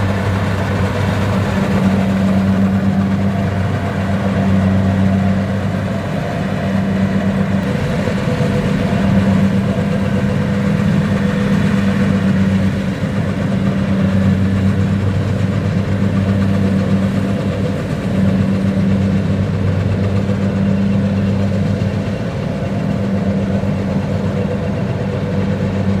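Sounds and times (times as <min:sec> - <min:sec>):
combine harvester diesel engine: 0:00.0 - 0:26.0.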